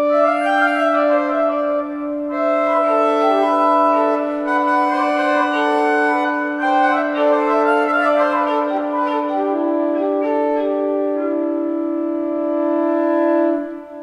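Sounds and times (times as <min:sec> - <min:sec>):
slow melody of held notes: 0:00.0 - 0:14.0.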